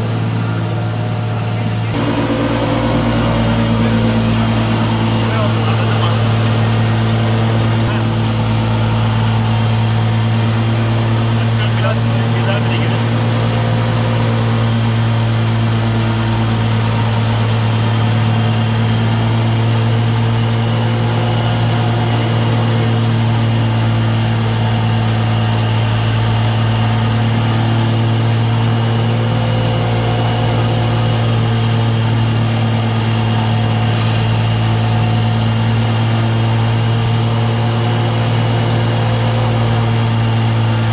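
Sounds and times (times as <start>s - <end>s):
machine humming: 0.0s - 40.9s.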